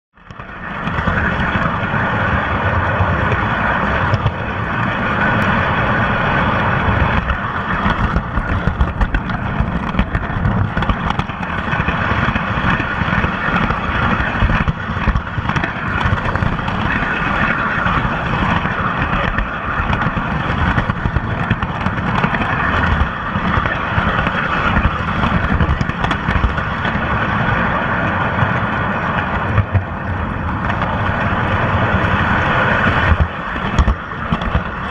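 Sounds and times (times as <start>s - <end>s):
wheels rumbling on rails: 0.1s - 34.9s.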